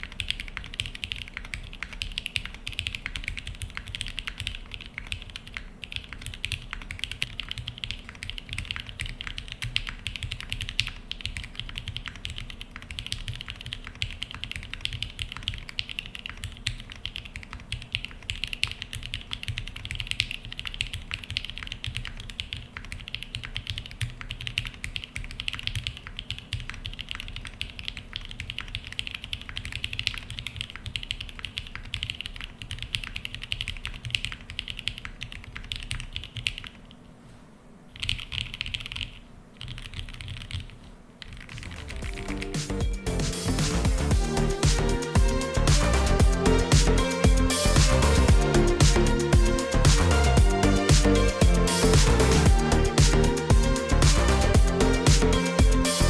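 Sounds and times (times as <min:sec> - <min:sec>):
fast mechanical keyboard typing: 0:00.0 - 0:37.0, 0:37.9 - 0:56.0.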